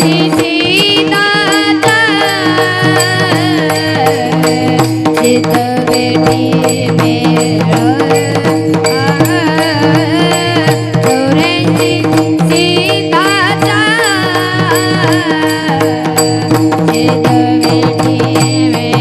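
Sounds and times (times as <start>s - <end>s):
boy singing: 0.0s - 19.0s
devotional vocal melody: 0.0s - 19.0s
drum strokes: 0.0s - 19.0s.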